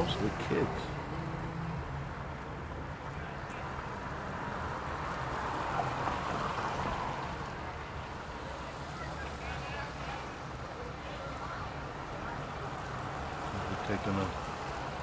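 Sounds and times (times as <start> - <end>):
car road and tyre noise: 0.0 - 15.0.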